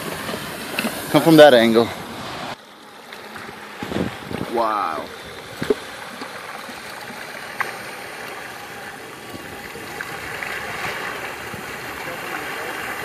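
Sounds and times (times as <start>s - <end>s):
tyres sloshing through water: 0.0s - 13.0s.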